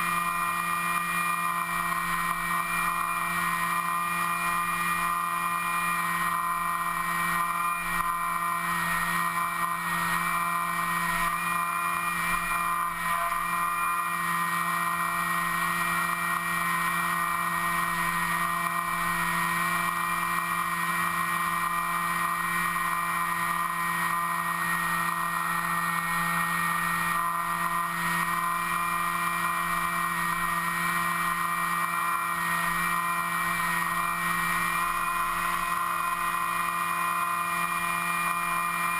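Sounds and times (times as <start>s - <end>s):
electric motor and propeller whine: 0.0s - 38.9s.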